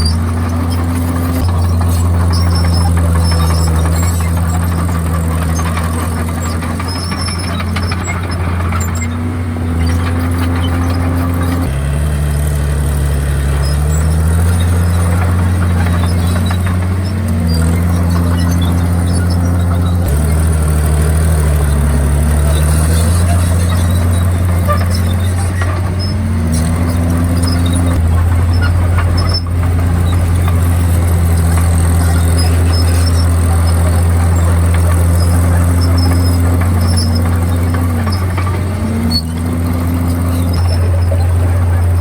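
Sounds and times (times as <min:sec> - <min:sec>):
bulldozer diesel engine: 0:00.0 - 0:42.0
faint high squeaks: 0:00.0 - 0:42.0.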